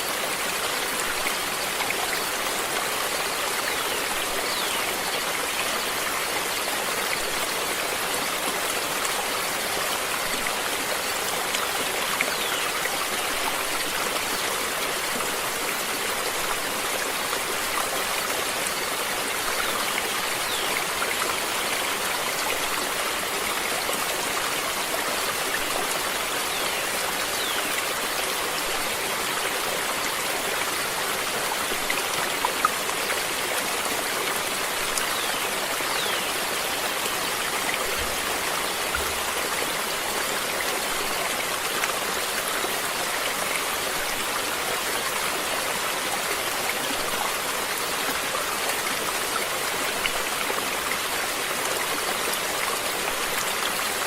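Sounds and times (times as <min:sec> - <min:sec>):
water flowing in a stream: 0:00.0 - 0:54.0.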